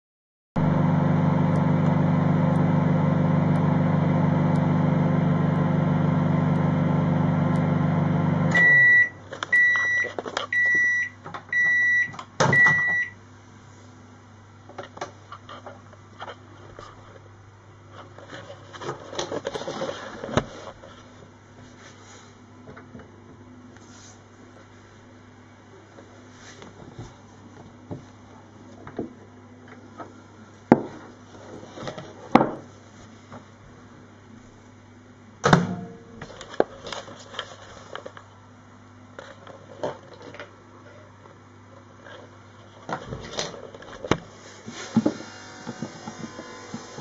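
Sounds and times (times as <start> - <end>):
microwave oven humming: 0.6 - 47.0.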